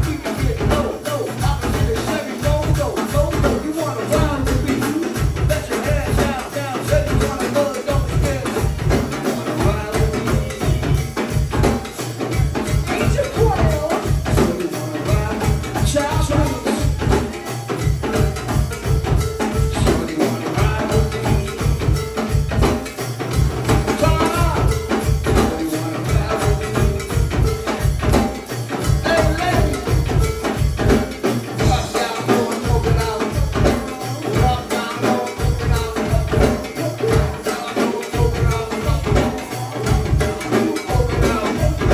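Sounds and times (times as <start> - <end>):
live band percussion: 0.0 - 41.9
pulsing bass line: 0.0 - 41.9.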